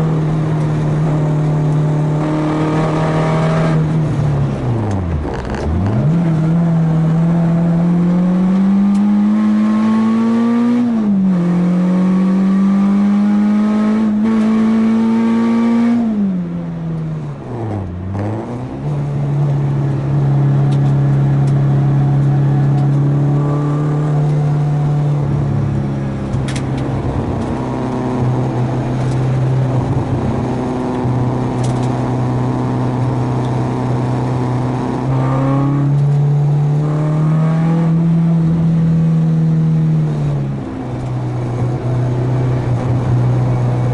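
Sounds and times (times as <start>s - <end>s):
car engine revving at full throttle: 0.0s - 43.9s.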